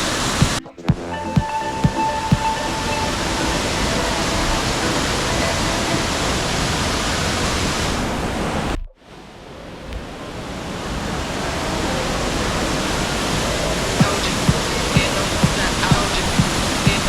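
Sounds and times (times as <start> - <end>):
waterfall rushing: 1.4 - 8.7, 10.2 - 17.0.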